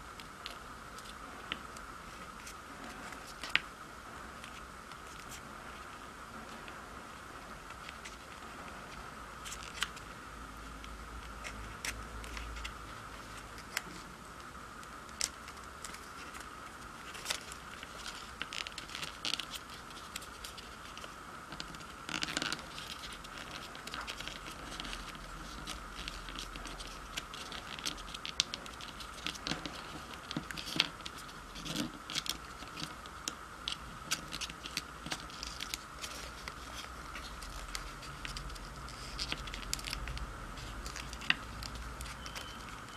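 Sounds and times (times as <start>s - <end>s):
faint steady whine: 0.0s - 42.9s
paper being folded and creased: 4.4s - 10.1s, 11.2s - 14.2s, 15.0s - 42.9s.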